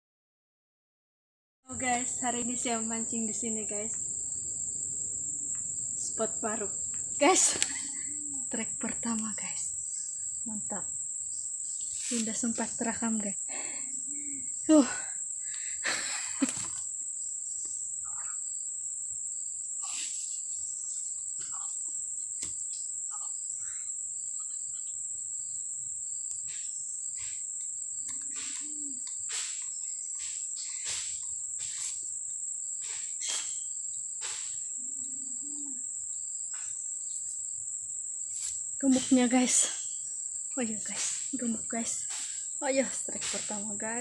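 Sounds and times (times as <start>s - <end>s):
faint broken insect tone: 1.7s - 44.0s
insects shrill tone: 1.7s - 44.0s.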